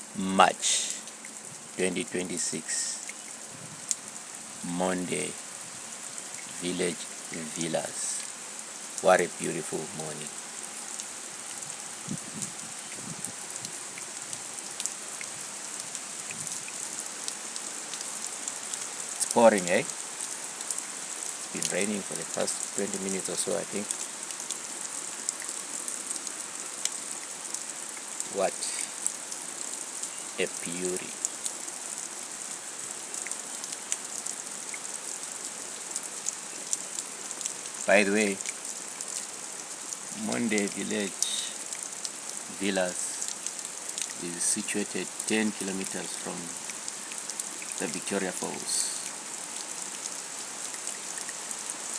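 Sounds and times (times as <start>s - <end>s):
heavy rain hiss: 0.0s - 51.9s
raindrops ticking on hard surfaces: 0.0s - 51.9s.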